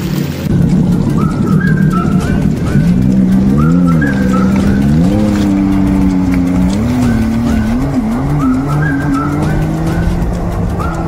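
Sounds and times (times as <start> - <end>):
background music: 0.0 - 11.0
watercraft engine revving: 0.0 - 11.0.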